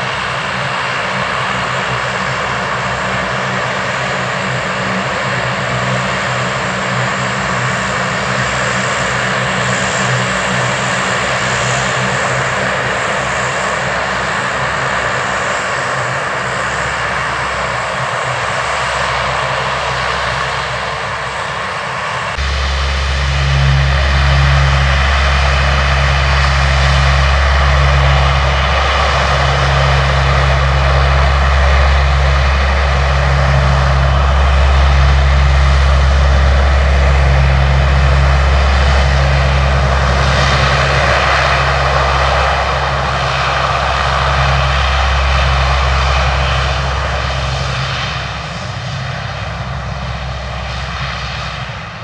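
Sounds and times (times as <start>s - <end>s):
deep pulsing drone: 0.0s - 52.0s
turboprop engines running: 0.0s - 52.0s.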